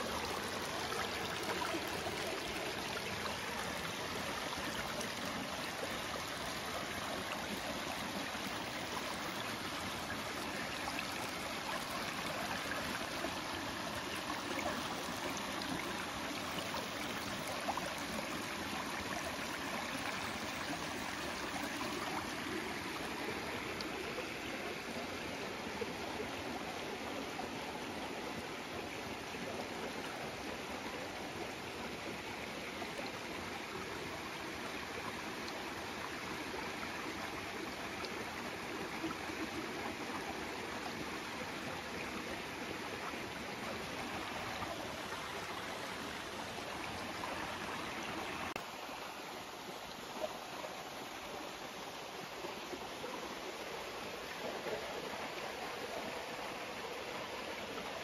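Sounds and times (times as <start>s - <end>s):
stream water running over rocks: 0.0s - 58.0s.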